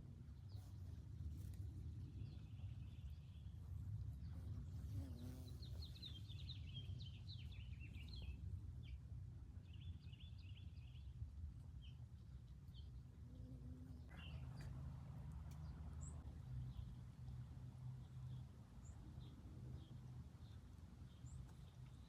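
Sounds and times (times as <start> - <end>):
songbirds chirping and trilling: 0.1 - 22.0.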